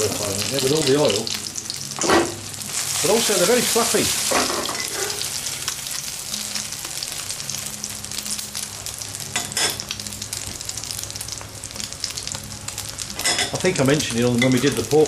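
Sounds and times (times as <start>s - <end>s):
omelette sizzling in oil: 0.0s - 15.0s.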